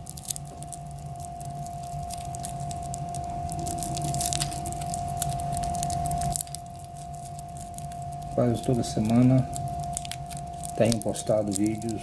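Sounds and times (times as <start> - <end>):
plastic film peeling and crinkling: 0.0 - 12.0.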